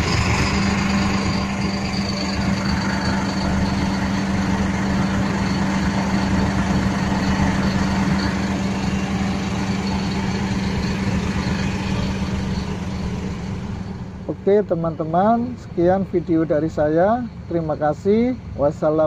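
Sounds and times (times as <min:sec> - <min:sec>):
truck diesel engine running steadily: 0:00.0 - 0:19.0.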